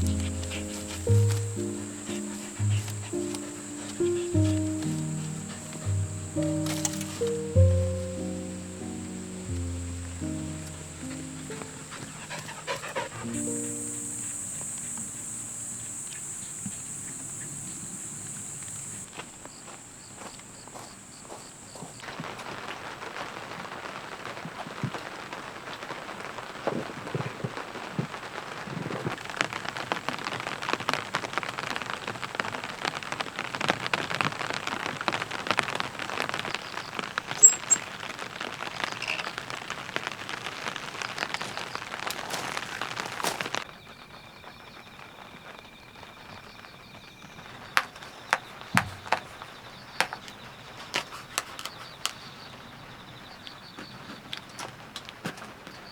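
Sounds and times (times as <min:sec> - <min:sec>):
heavy rain pattering: 0:00.0 - 0:19.5, 0:22.0 - 0:55.9.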